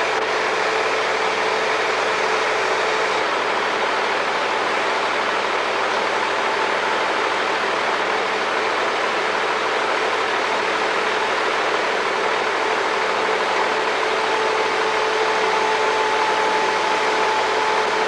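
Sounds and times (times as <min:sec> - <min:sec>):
machine engine droning: 0:00.0 - 0:06.7, 0:07.8 - 0:18.0.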